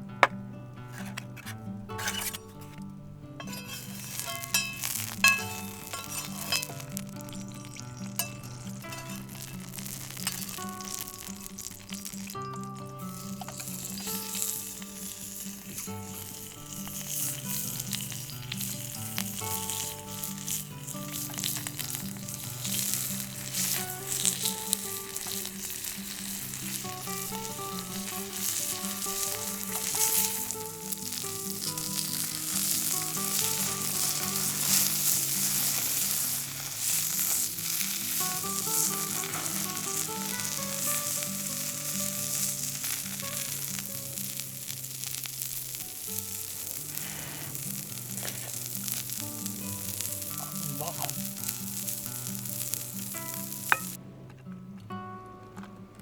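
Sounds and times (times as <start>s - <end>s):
soft background music: 0.0s - 56.0s
food sizzling in a pan: 0.8s - 2.8s, 3.4s - 54.0s.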